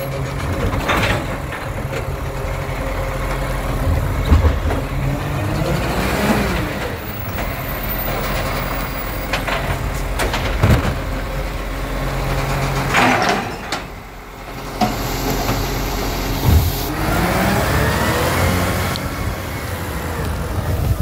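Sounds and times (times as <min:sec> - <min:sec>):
diesel truck engine running: 0:00.0 - 0:21.0
hydraulic arm lifting bin: 0:00.0 - 0:21.0.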